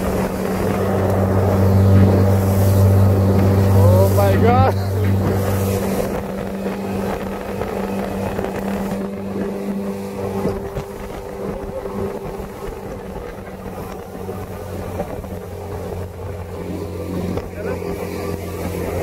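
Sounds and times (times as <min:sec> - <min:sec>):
small outboard motor running: 0:00.0 - 0:19.0.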